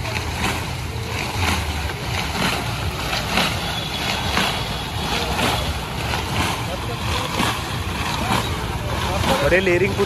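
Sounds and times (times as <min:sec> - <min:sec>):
drum swishing: 0:00.0 - 0:10.0
roller drum rumbling: 0:00.0 - 0:10.0.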